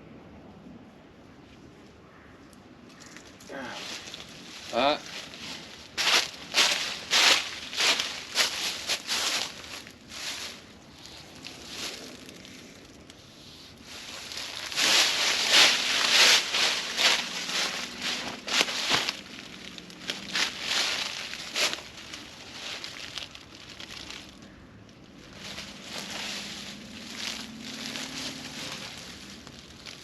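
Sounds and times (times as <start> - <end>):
rustling and crunching: 3.0 - 30.0.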